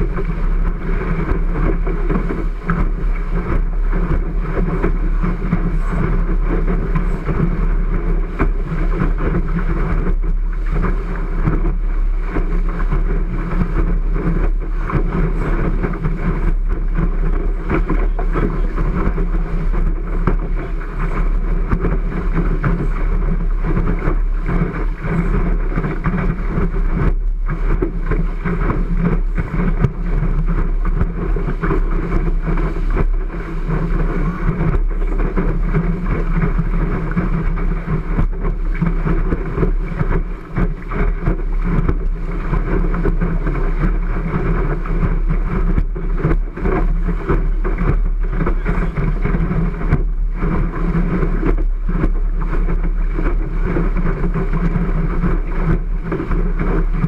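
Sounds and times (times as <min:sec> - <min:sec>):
constant low rumble: 0:00.0 - 0:57.0
water streaming past hull: 0:00.0 - 0:57.0
wind rushing on microphone: 0:00.0 - 0:57.0.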